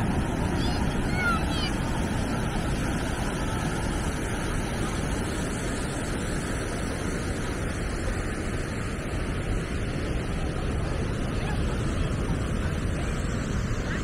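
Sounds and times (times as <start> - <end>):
surf rushing on beach: 0.0 - 14.0
wind buffeting microphone: 0.0 - 14.0.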